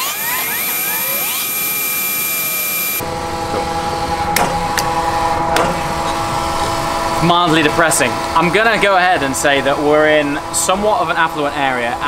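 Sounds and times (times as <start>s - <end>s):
fuel pump humming: 0.0s - 12.0s.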